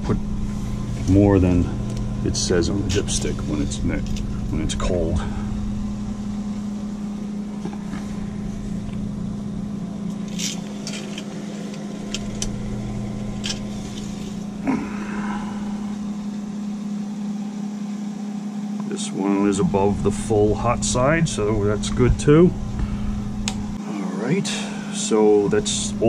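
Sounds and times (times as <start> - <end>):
air conditioning humming: 0.0 - 26.0.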